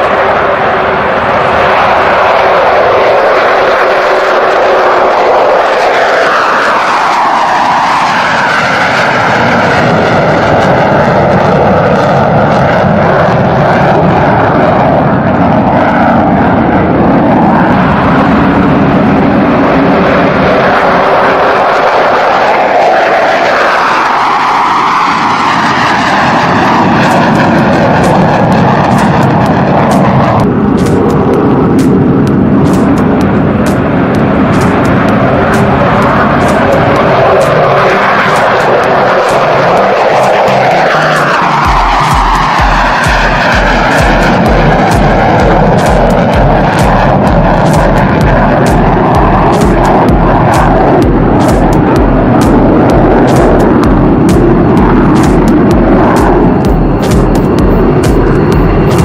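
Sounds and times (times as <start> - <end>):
fighter jets flying past: 0.0 - 59.0.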